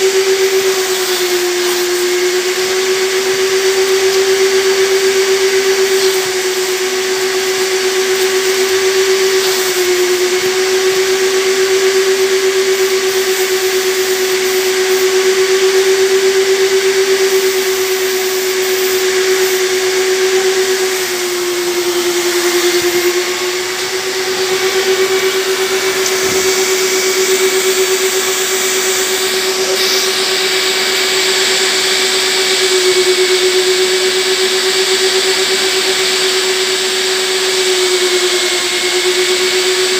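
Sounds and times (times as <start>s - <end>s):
vacuum motor whining: 0.0s - 39.9s
air rushing through hose: 3.1s - 35.6s.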